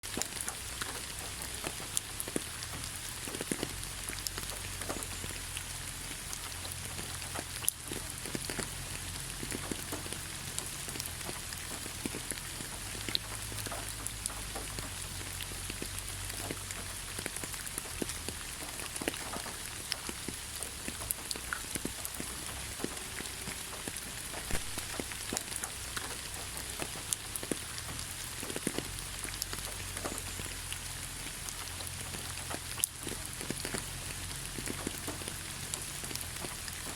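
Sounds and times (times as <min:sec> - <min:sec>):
rain falling on leaves: 0:00.0 - 0:36.9.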